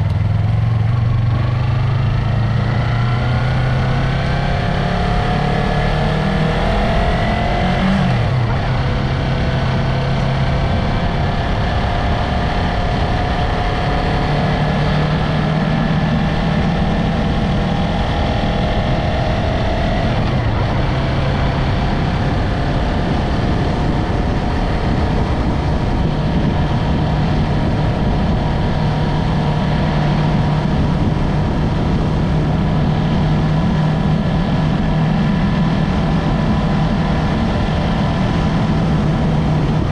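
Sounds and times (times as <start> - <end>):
heavy wind: 0.0 - 39.9
motorcycle engine revving: 0.0 - 39.9
road rumble: 0.0 - 39.9.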